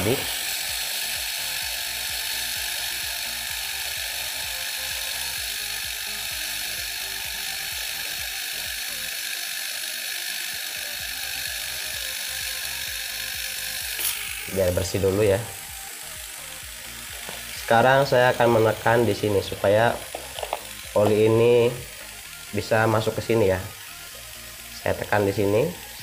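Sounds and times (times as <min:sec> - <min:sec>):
compressor running: 0:00.0 - 0:26.0.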